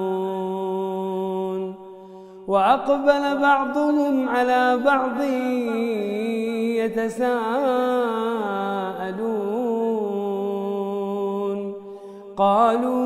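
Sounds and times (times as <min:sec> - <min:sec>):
man chanting recitation: 0:00.0 - 0:01.8, 0:02.5 - 0:11.8, 0:12.4 - 0:13.0.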